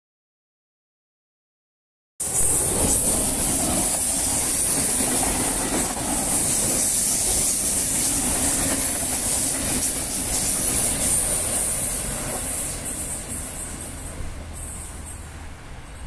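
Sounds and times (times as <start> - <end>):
high hiss: 2.2 - 16.0
train wheels on rails: 2.2 - 16.0.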